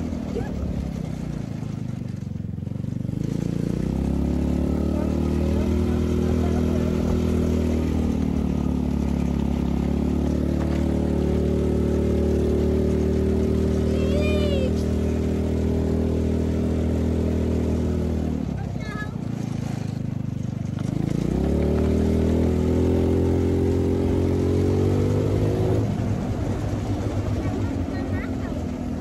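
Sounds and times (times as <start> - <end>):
utility vehicle engine accelerating: 0.0 - 29.0.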